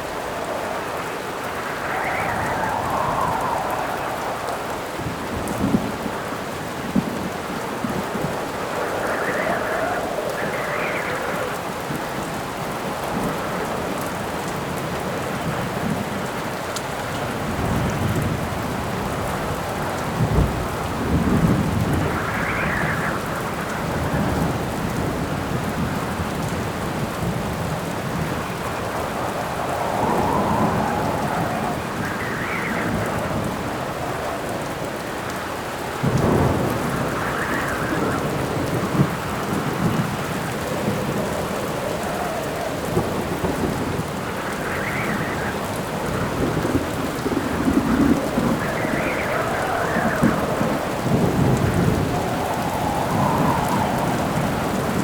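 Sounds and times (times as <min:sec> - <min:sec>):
steady rain: 0:00.0 - 0:55.0
thunder rumbling: 0:00.0 - 0:55.0
wind howling in gusts: 0:00.0 - 0:55.0.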